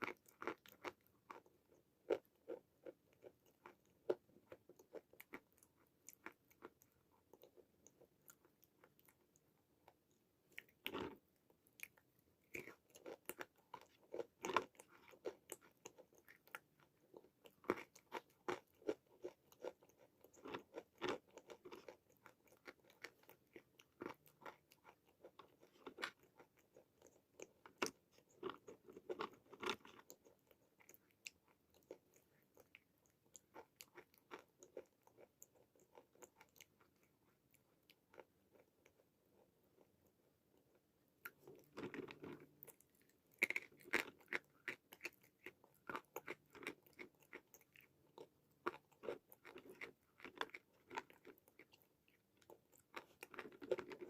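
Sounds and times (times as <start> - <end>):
chalk crunching and chewing: 0.0 - 54.0.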